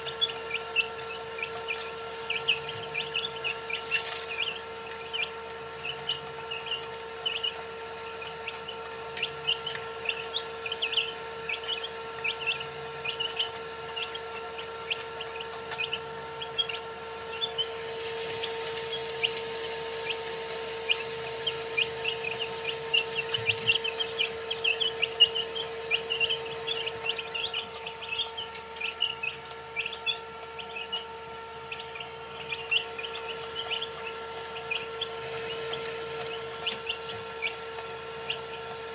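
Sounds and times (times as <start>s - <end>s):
chicks peeping: 0.0s - 38.9s
steady hum: 0.0s - 38.9s.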